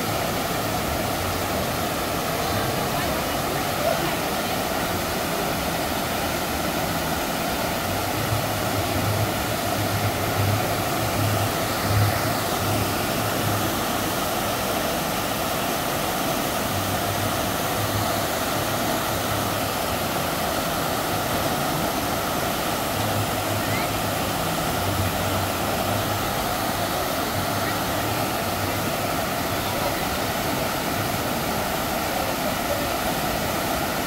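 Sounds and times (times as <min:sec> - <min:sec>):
rushing water: 0:00.0 - 0:34.0.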